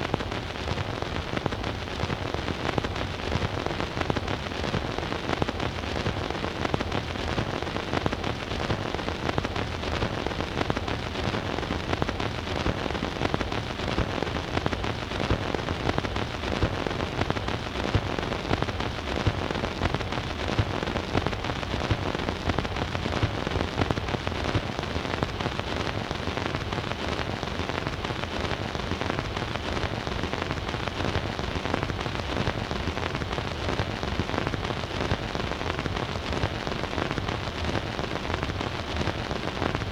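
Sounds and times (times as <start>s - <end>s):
record surface hiss and crackle: 0.0s - 39.9s.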